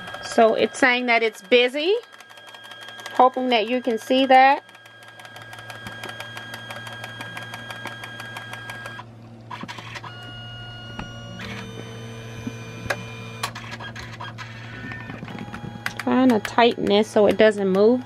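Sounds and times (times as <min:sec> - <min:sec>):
sharp printer clicks: 0:00.0 - 0:10.2, 0:12.8 - 0:18.0
photo printer motors whirring: 0:00.0 - 0:18.0.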